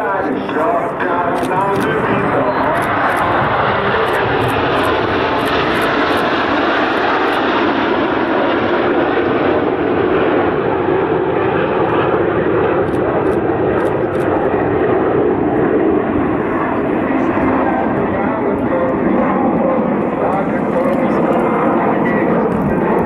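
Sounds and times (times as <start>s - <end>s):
jets flying overhead: 0.0s - 23.0s.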